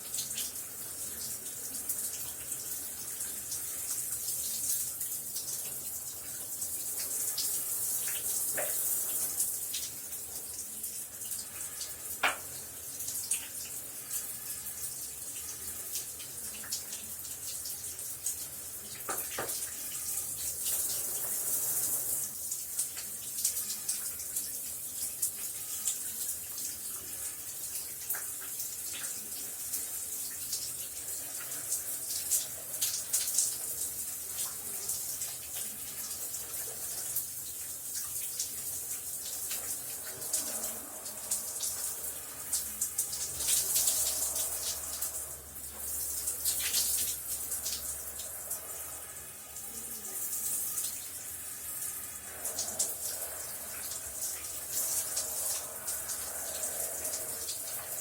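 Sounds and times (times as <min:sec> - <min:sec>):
shower water spraying: 0:00.0 - 0:58.0.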